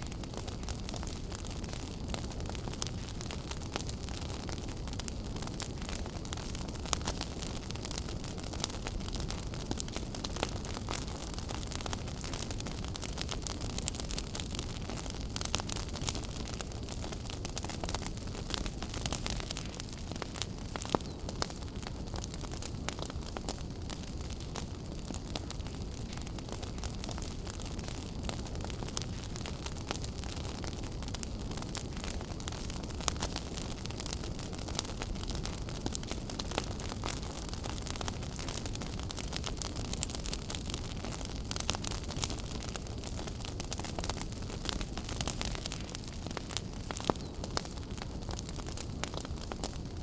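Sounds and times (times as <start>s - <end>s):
fire low rumble: 0.0s - 50.0s
wood fire crackling: 0.0s - 50.0s.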